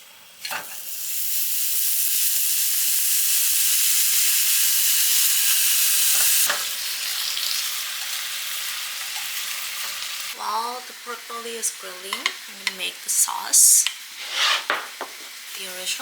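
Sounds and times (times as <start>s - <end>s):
pork frying with sizzle: 0.0s - 13.0s, 13.6s - 16.0s.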